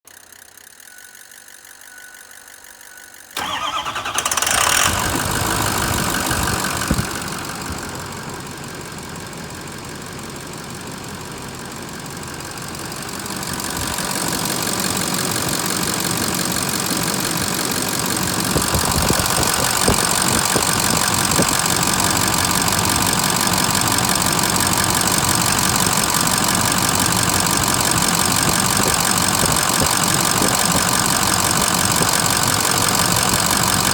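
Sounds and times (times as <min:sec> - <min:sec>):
diesel engine starting and idling: 0:03.2 - 0:33.9.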